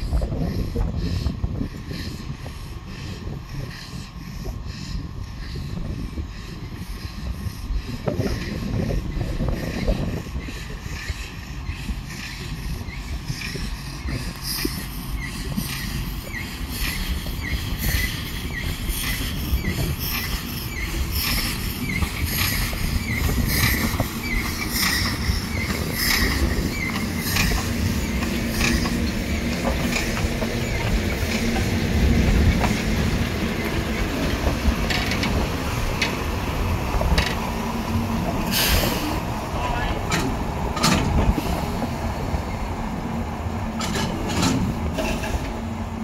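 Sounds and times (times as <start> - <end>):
diesel locomotive engine drone: 0.0 - 46.0
wheels squealing on rails: 0.0 - 46.0
wheels clicking on rails: 3.0 - 46.0.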